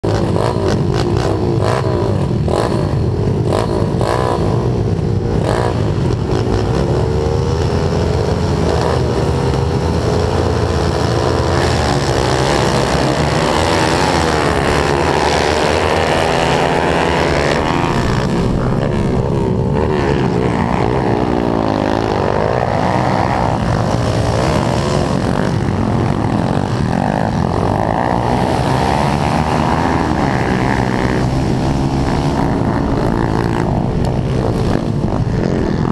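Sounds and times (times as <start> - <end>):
other pit bikes running: 0.0 - 35.9
pit bike engine revving: 0.0 - 35.9.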